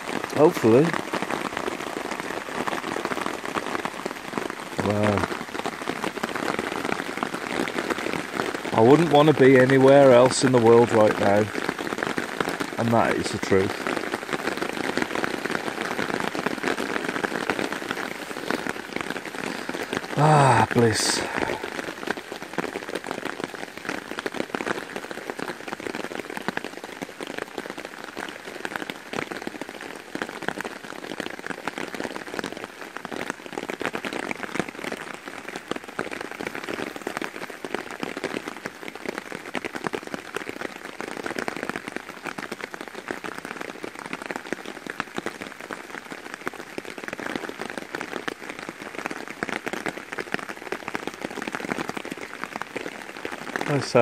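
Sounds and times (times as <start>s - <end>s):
heavy rain drumming on a tarp: 0.0s - 54.0s.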